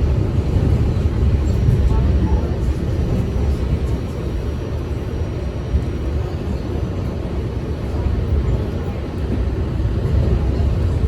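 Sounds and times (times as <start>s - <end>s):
subway train rumbling on track: 0.0s - 11.0s.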